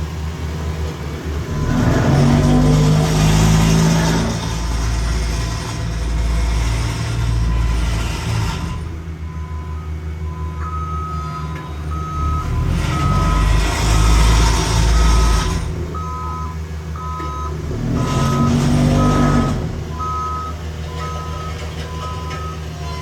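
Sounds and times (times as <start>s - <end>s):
diesel engine running: 0.0s - 23.0s
two-tone reversing alarm: 1.6s - 23.0s.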